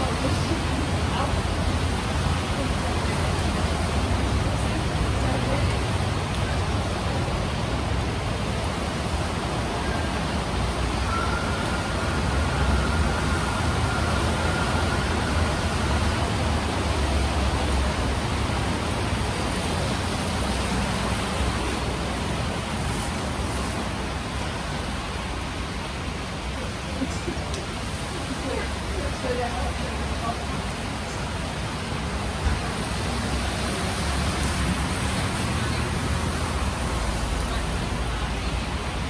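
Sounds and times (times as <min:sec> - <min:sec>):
vehicle driving on wet road: 0:00.0 - 0:39.0.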